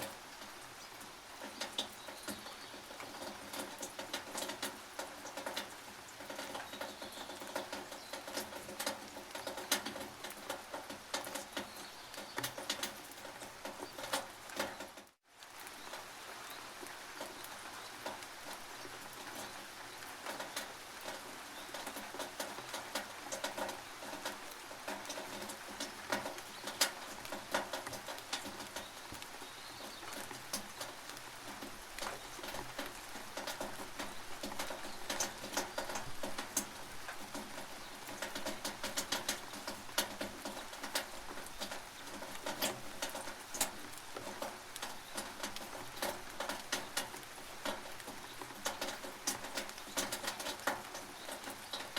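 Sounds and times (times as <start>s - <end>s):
rain on a tin roof: 0.0s - 51.9s.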